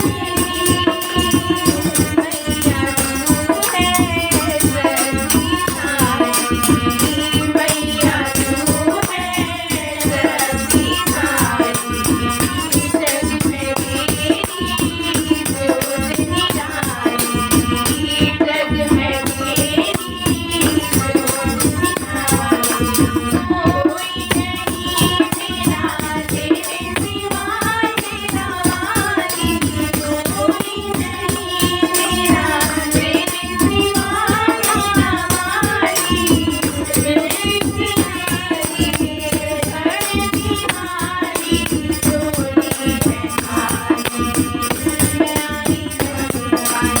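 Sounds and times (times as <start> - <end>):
hand percussion and rattles: 0.0 - 47.0
person singing a melody: 0.0 - 47.0.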